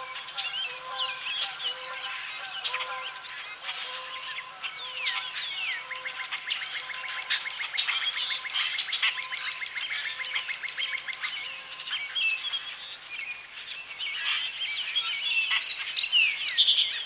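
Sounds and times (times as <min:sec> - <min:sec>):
bird chorus: 0:00.0 - 0:17.0.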